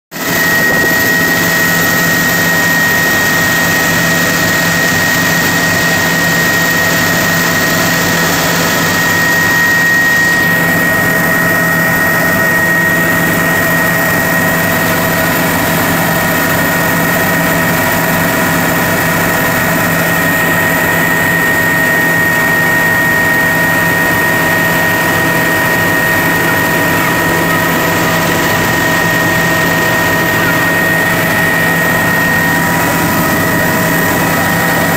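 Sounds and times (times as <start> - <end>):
helicopter engine and rotor noise: 0.1 - 34.9
high-pitched whine: 0.2 - 34.9.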